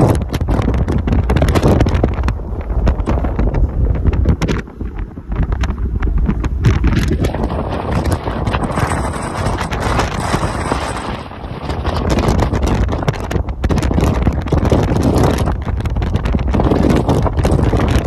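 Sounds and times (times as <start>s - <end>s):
car rumbling on road: 0.0s - 18.0s
wind buffeting microphone: 0.0s - 18.0s.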